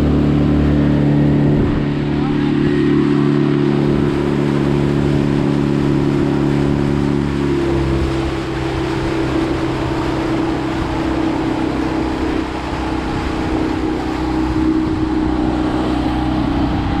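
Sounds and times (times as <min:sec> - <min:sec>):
outboard motor running: 0:00.0 - 0:17.0
rush of water and air: 0:00.0 - 0:17.0.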